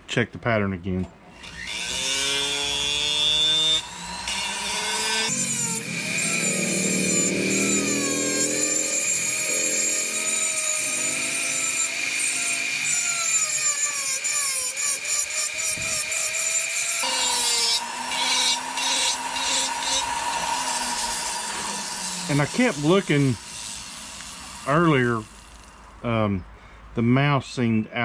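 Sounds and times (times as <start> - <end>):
rotary tool grinding wood: 1.4 - 26.0.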